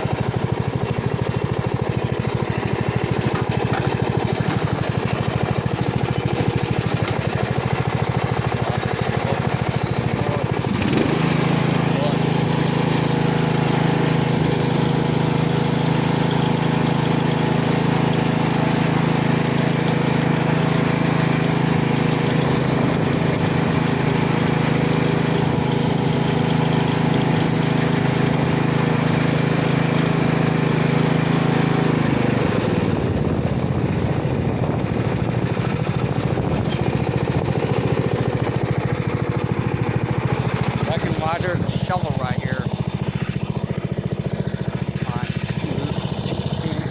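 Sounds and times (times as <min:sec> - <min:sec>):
lawnmower engine running: 0:00.0 - 0:46.9.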